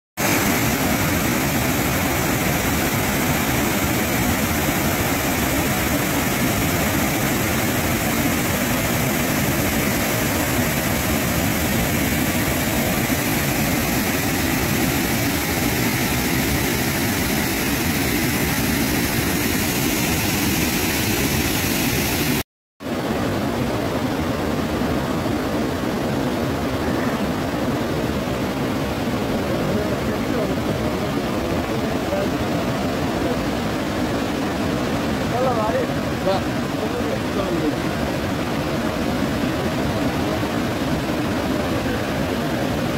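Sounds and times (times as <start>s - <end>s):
waterfall rushing: 0.2s - 42.9s.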